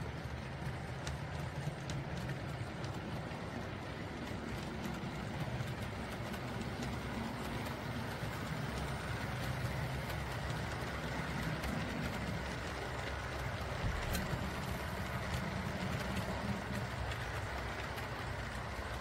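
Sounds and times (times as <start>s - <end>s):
wheels rolling over track: 0.0s - 19.0s.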